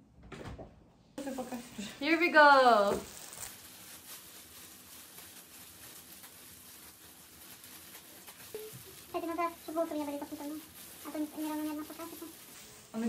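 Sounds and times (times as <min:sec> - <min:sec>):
plastic gloves rustling: 0:01.2 - 0:13.0.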